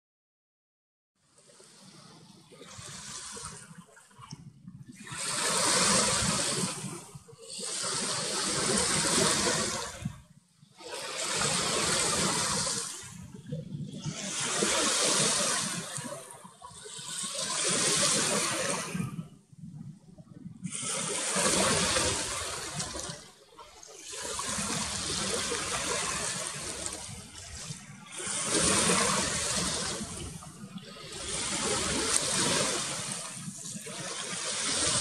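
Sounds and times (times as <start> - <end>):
small sea waves washing in: 1.3 - 35.0.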